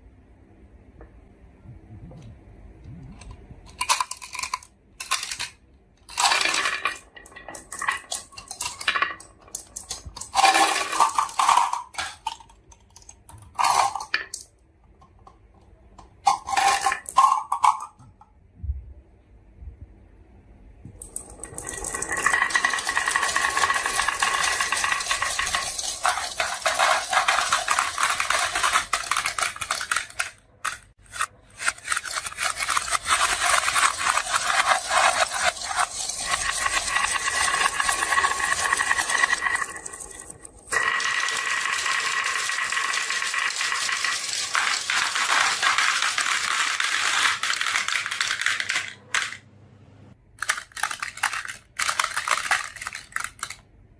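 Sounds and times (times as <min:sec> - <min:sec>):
marbles rolling down marble run: 0:03.7 - 0:14.5, 0:16.3 - 0:18.0, 0:21.0 - 0:49.4, 0:50.4 - 0:53.6.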